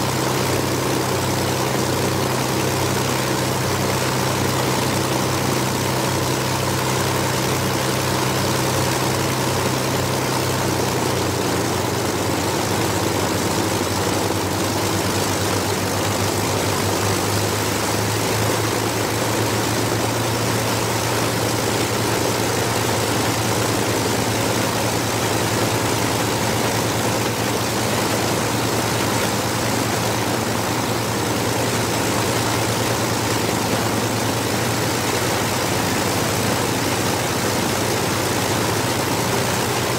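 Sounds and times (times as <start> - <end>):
propeller aircraft engines running: 0.0 - 39.9.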